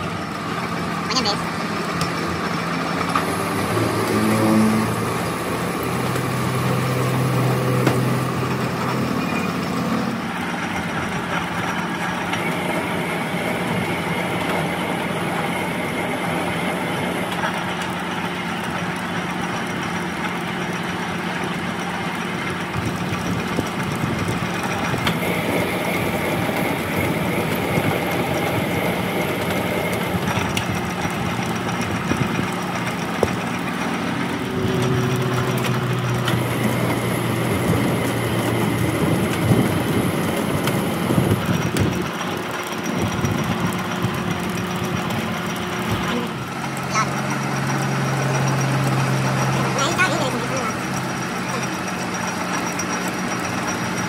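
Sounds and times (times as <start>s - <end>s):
lathe motor hum: 0.0s - 54.0s.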